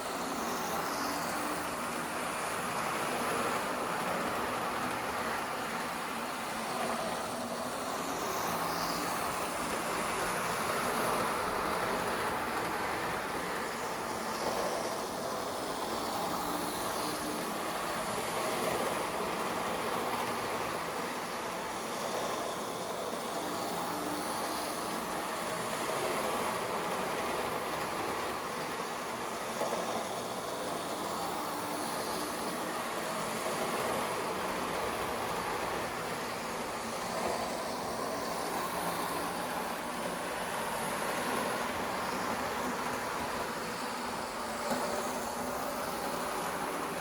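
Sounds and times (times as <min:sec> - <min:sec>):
model train motor whirring: 0:00.0 - 0:47.0
wheels rolling on rails: 0:00.0 - 0:47.0.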